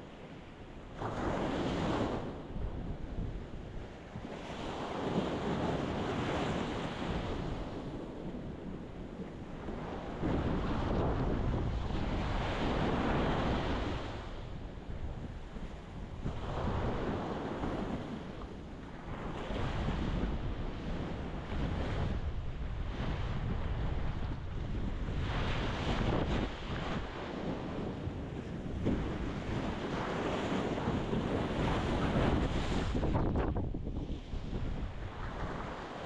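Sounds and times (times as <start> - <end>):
wind rumble on microphone: 0.0 - 36.0.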